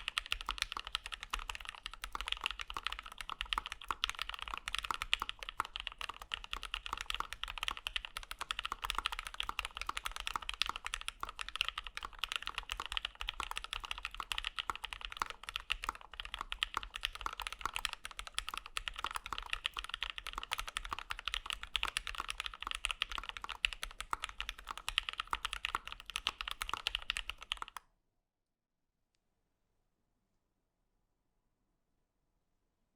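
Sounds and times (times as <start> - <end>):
fast typing on mechanical keyboard: 0.0 - 27.8.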